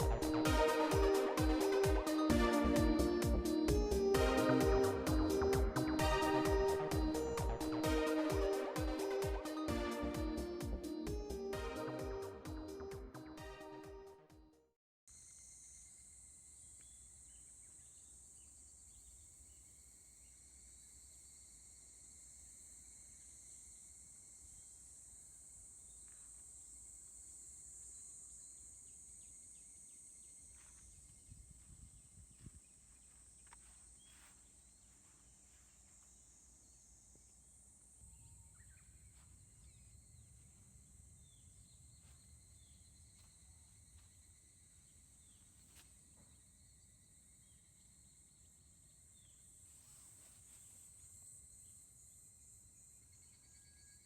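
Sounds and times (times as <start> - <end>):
high-pitched insect chorus: 0.0 - 12.8, 15.1 - 54.0.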